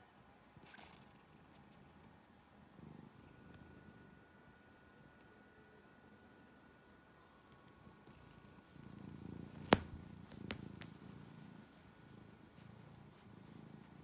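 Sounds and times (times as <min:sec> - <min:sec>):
cat purring: 0:00.6 - 0:04.4, 0:05.2 - 0:14.0.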